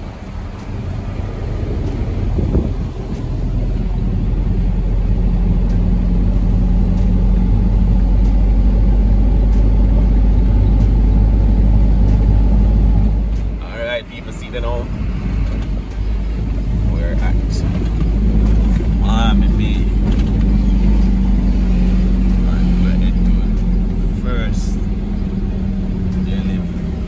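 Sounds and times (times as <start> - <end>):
vehicle engine low drone: 0.0 - 27.0.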